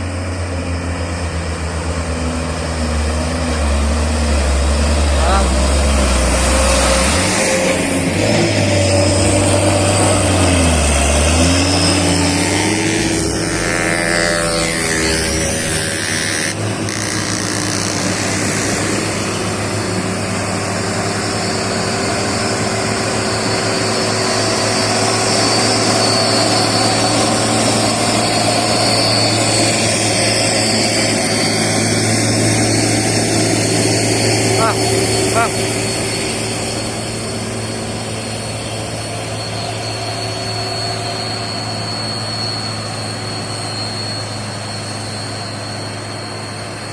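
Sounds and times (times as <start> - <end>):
truck diesel engine under load: 0.0 - 46.9.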